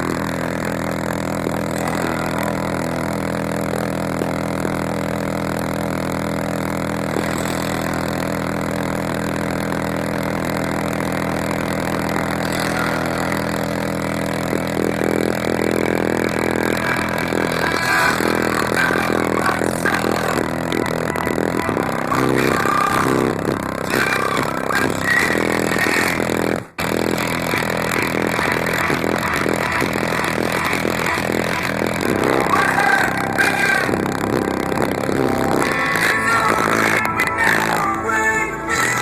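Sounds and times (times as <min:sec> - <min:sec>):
distorted synth-rock through subwoofers: 0:00.0 - 0:39.0.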